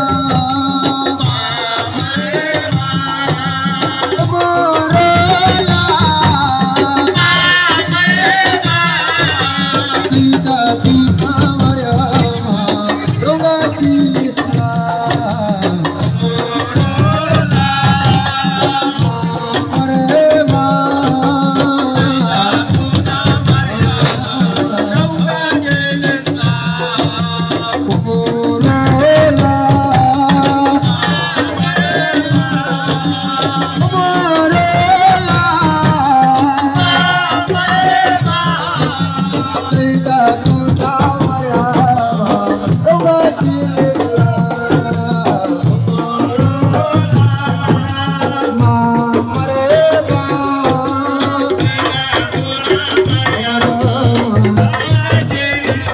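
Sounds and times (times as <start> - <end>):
percussion beat: 0.0 - 55.9
person singing: 0.0 - 55.9.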